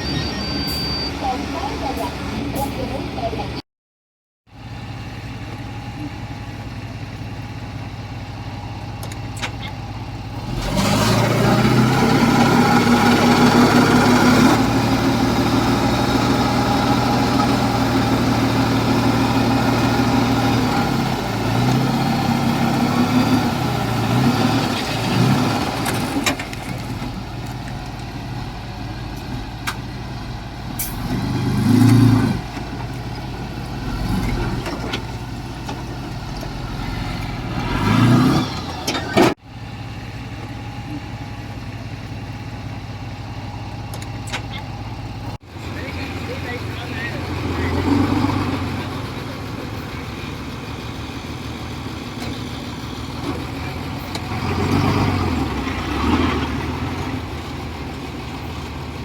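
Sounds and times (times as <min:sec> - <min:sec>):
heavy diesel engine laboring: 0:00.0 - 0:03.6, 0:04.5 - 0:59.0.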